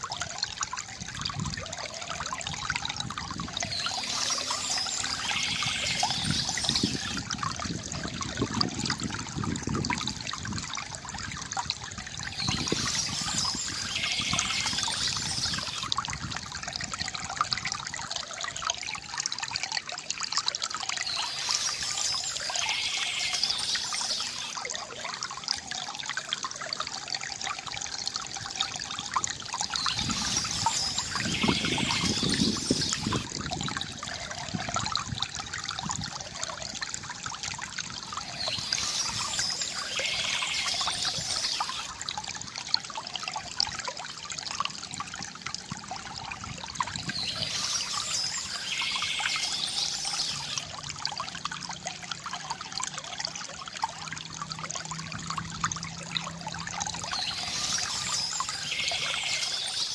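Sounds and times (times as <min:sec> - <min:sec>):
water trickling from fountain: 0:00.0 - 0:59.9.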